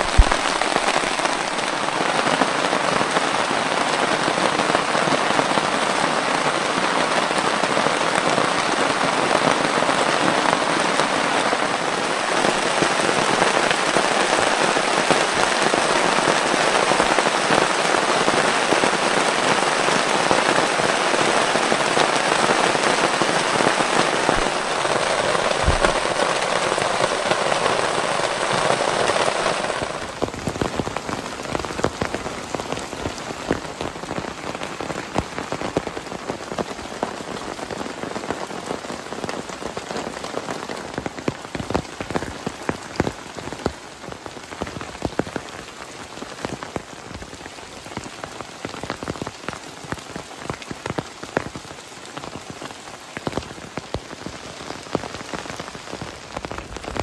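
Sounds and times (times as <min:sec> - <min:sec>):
heavy rain falling: 0:00.0 - 0:57.0
raindrops striking close by: 0:00.0 - 0:57.0.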